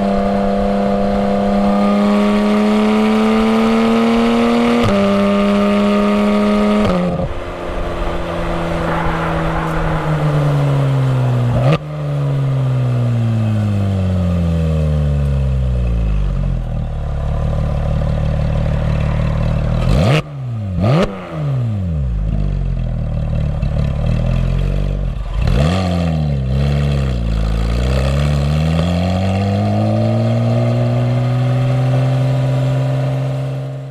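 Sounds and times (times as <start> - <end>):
sports car engine revving: 0.0 - 33.9.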